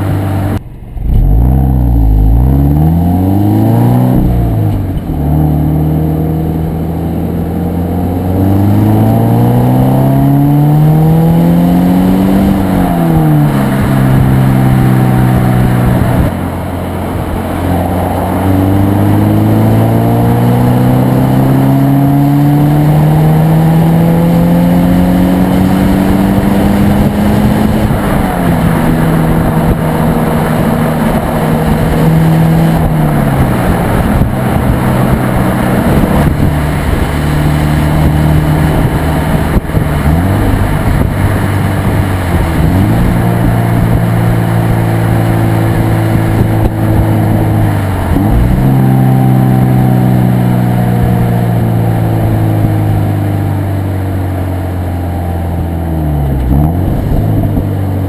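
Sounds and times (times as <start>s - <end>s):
car exhaust accelerating: 0.0s - 58.0s
road and wind noise: 0.0s - 58.0s.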